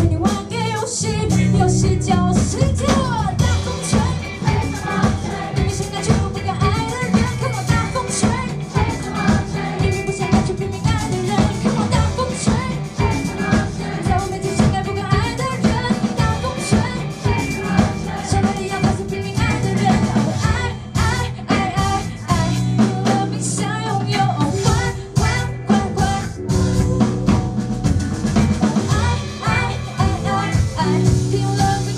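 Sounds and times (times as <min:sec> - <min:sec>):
person singing into microphone: 0:00.0 - 0:27.8, 0:28.4 - 0:31.9
distant live rock band: 0:00.0 - 0:31.9.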